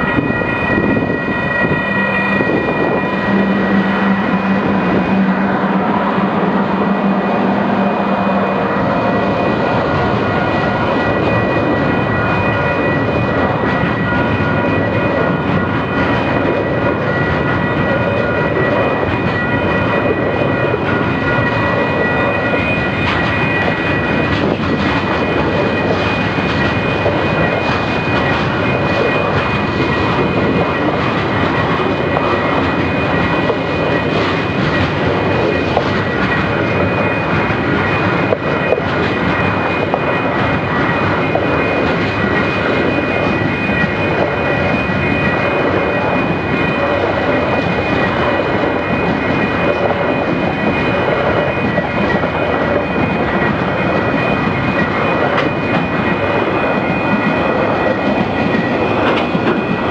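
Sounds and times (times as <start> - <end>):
high-pitched tones: 0.0 - 59.9
train rumbling: 0.0 - 59.9.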